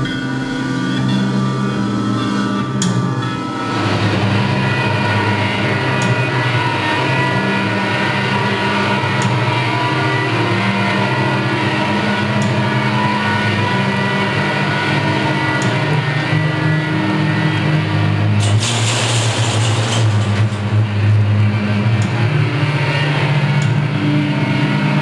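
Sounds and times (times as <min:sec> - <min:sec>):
guitar amplifier electronic drone: 0:00.0 - 0:25.0.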